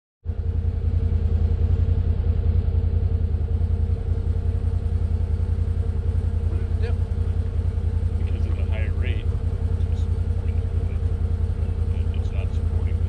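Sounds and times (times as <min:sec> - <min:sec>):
engine idling: 0:00.2 - 0:13.0
faint steady hum: 0:00.3 - 0:13.0.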